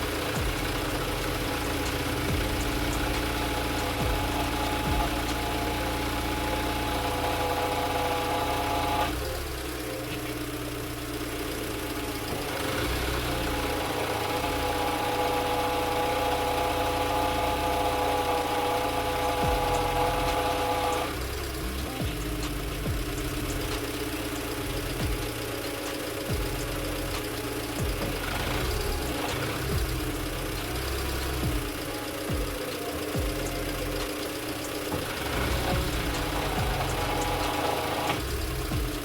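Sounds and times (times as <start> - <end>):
car engine idling: 0.0 - 39.0
power steering whine: 0.0 - 39.0.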